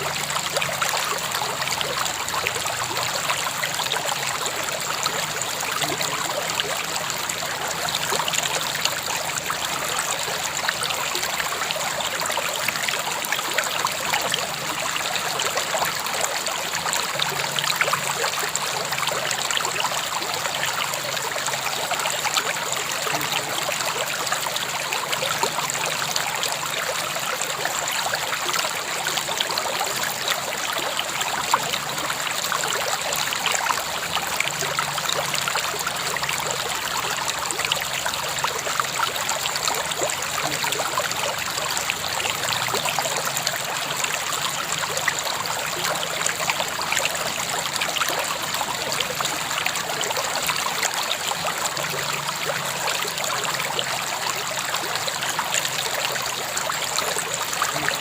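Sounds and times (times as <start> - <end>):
river water flowing and splashing: 0.0 - 58.0.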